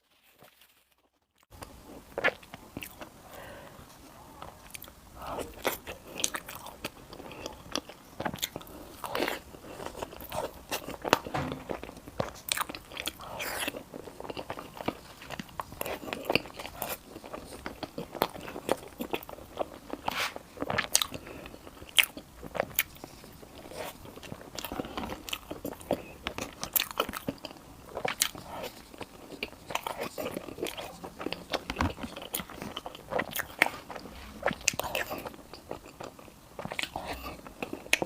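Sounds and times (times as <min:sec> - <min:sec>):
biting and chewing: 0:04.7 - 0:38.0.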